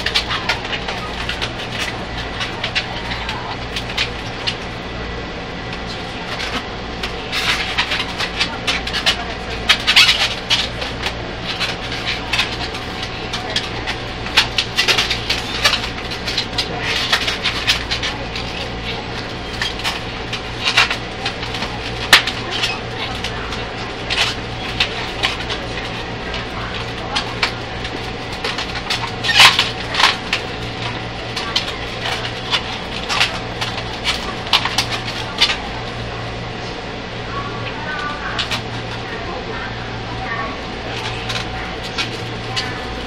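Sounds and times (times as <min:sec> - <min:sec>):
balloons squeaking and rubbing: 0:00.0 - 0:04.9, 0:05.8 - 0:36.3
train carriage hum: 0:00.0 - 0:43.0.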